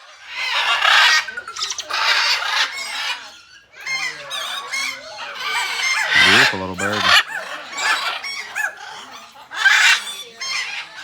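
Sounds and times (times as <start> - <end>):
parrots squawking: 0.2 - 11.0.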